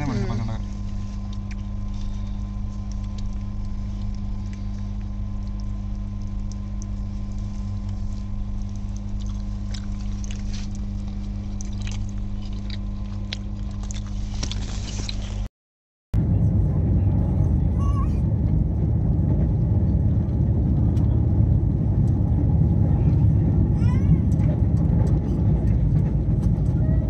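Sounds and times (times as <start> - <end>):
vehicle droning and humming: 0.0 - 15.5, 16.2 - 27.0.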